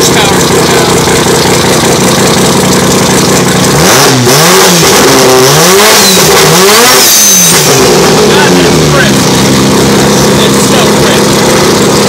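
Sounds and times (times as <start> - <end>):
rotary engine idling and revving: 0.0 - 12.0.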